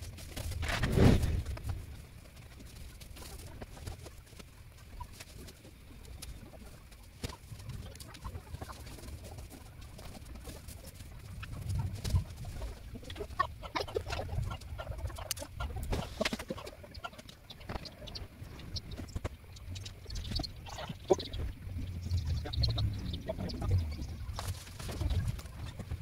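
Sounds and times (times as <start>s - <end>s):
birds calling and clucking: 4.7s - 26.0s.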